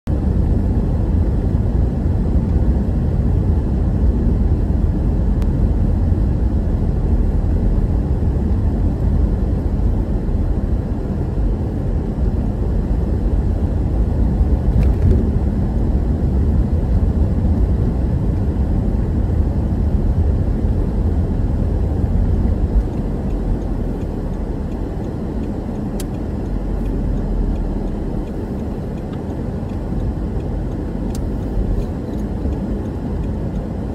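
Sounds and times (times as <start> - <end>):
car cabin road noise: 0.1 - 33.9.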